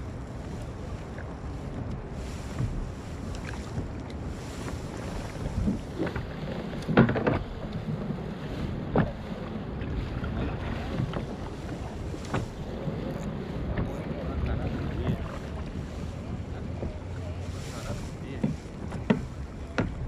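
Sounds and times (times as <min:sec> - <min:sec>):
water lapping at kayak hull: 0:00.0 - 0:20.0
wind buffeting microphone: 0:00.0 - 0:20.0.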